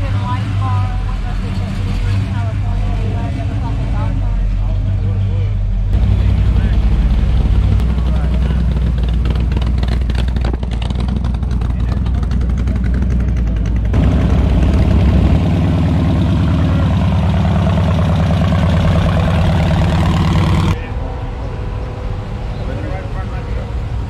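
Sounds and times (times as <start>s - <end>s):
car engines idling: 0.0s - 24.0s
loud open engine: 0.0s - 24.0s.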